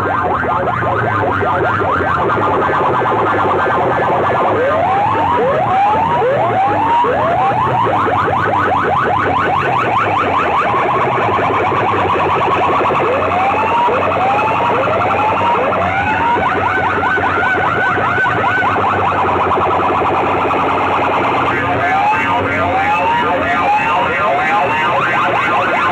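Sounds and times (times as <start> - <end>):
electronic siren whoops: 0.0 - 25.9.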